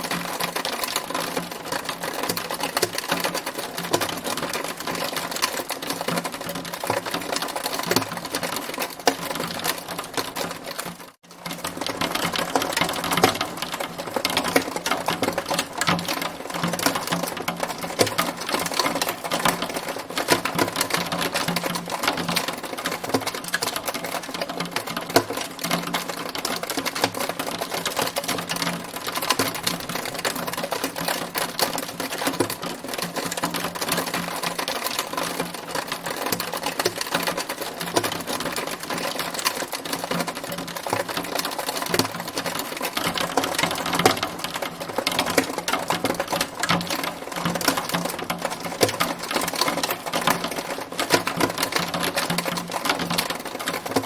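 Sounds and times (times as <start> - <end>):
hailstones clattering: 0.0 - 54.0.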